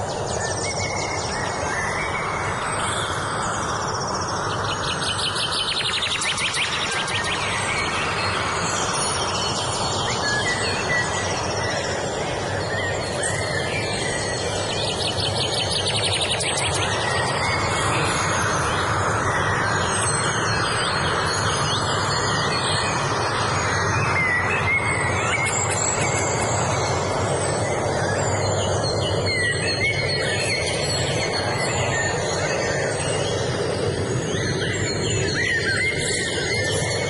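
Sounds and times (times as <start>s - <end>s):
loud steady rushing noise: 0.0s - 37.0s
songbirds singing: 0.0s - 37.0s.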